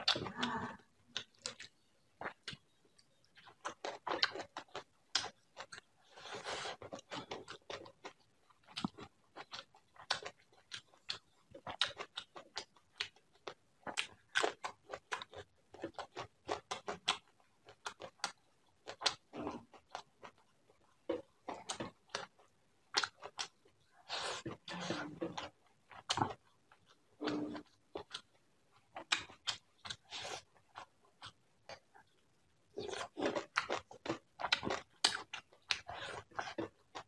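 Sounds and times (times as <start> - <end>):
fingers squishing food: 0.0 - 37.0.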